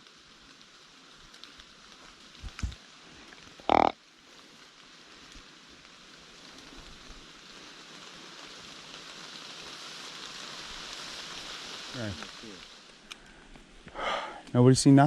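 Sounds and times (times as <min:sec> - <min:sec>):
rain patter: 0:00.0 - 0:15.0.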